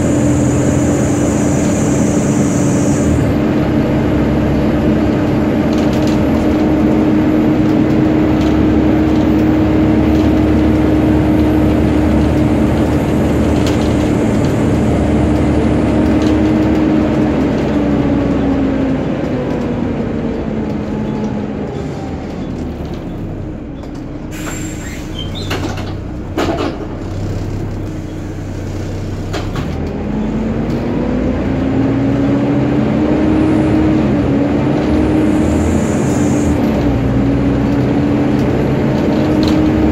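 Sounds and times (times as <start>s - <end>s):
bus cooling fan whining: 0.0s - 39.9s
bus engine and road noise: 0.0s - 39.9s.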